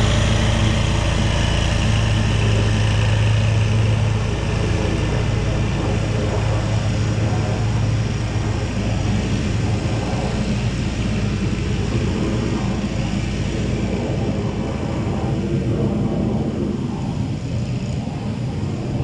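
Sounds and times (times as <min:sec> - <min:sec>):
vehicle engine running: 0:00.0 - 0:18.8
road noise: 0:00.0 - 0:19.0.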